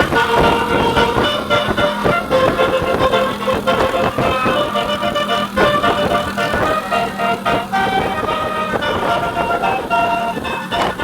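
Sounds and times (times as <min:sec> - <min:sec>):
bus air horn melody: 0:00.0 - 0:11.0.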